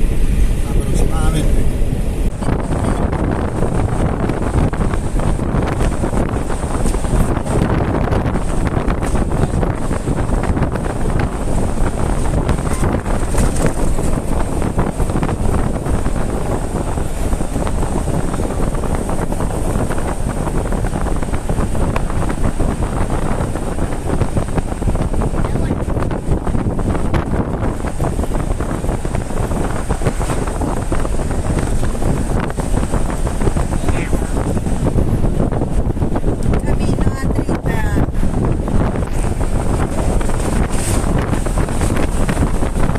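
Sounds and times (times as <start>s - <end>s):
wind buffeting microphone: 0.0s - 42.9s
wind rush and road noise: 0.0s - 42.9s.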